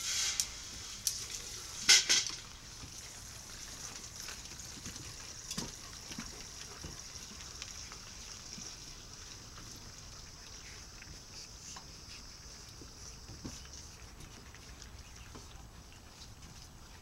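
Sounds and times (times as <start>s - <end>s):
puppies eating and lapping: 0.6s - 17.0s.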